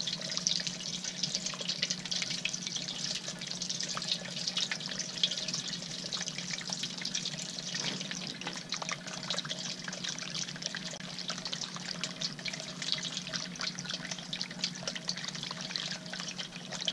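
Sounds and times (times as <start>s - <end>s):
fountain water splashing and trickling: 0.0s - 16.9s.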